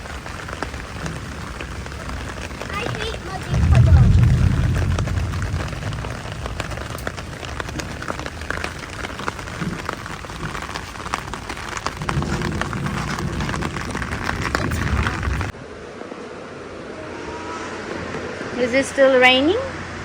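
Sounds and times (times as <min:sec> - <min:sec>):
heavy rain: 0:00.0 - 0:18.6
low rumble: 0:01.1 - 0:09.9, 0:12.0 - 0:20.0.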